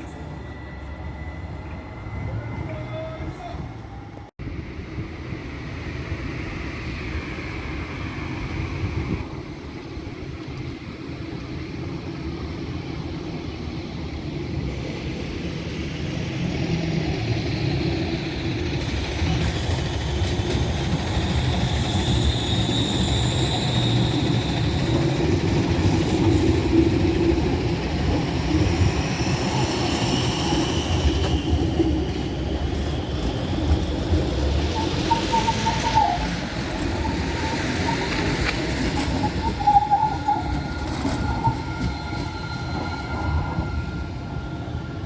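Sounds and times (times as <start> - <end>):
tram wheels rumbling on rails: 0.0 - 45.0.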